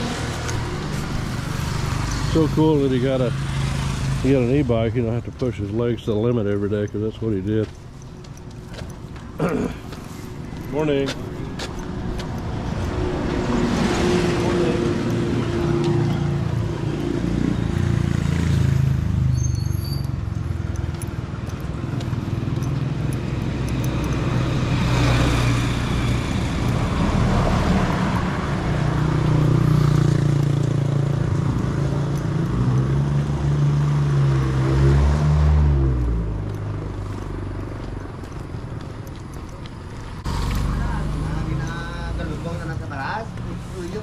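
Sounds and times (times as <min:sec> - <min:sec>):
motor vehicles passing: 0:00.0 - 0:44.0.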